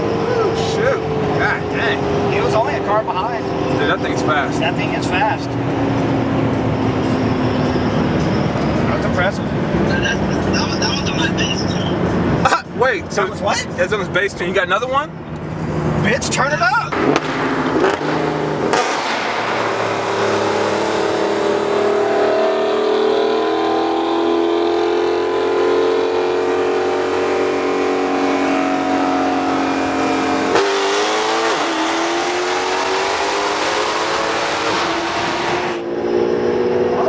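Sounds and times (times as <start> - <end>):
car engine at full throttle: 0.0 - 37.0.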